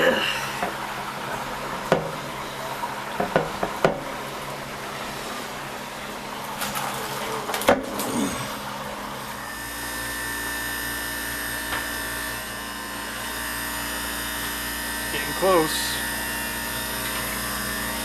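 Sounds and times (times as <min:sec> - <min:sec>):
ice machine humming: 0:00.0 - 0:18.0.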